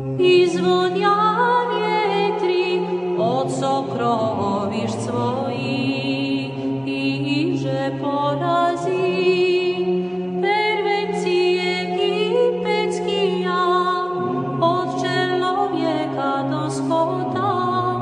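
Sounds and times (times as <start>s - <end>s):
choir holding low drone: 0.0s - 18.0s
woman singing ornamented melody: 0.2s - 18.0s.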